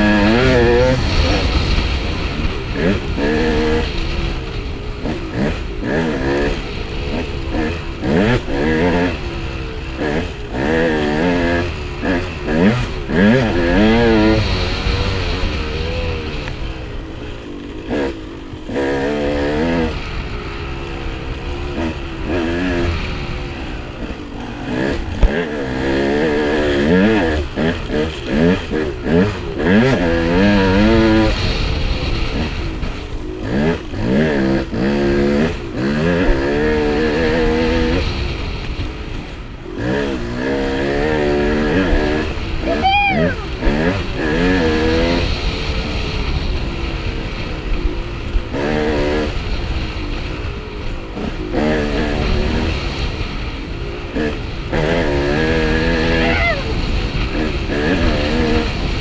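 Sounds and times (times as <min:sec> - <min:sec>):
dirt bike engine revving: 0:00.0 - 0:59.0
low wind rumble: 0:00.0 - 0:59.0.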